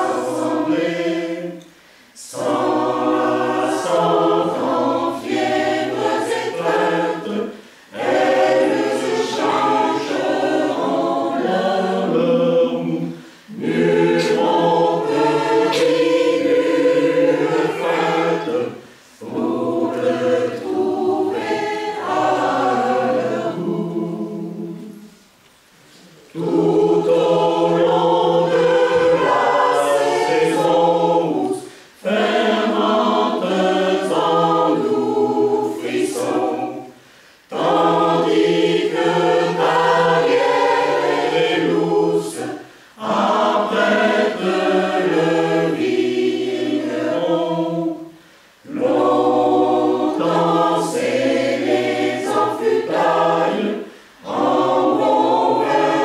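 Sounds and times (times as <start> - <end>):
mixed choir singing unaccompanied: 0.0 - 25.3, 26.3 - 56.0.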